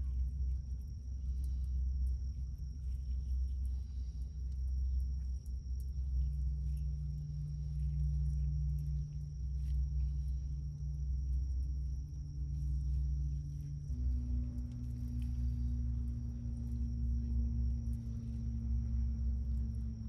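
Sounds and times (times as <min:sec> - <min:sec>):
cricket trilling: 0:00.0 - 0:20.0
loud low hum: 0:00.0 - 0:20.0.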